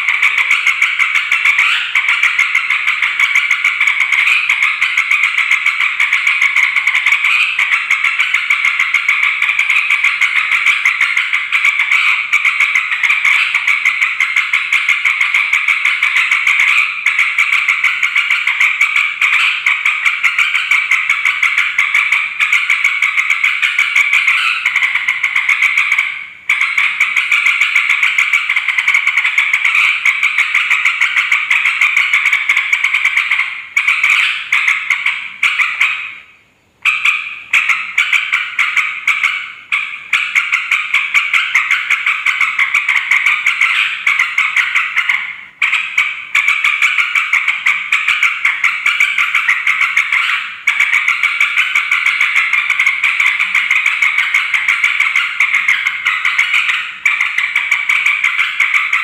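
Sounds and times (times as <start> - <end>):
flock of birds chattering: 0.0 - 59.0.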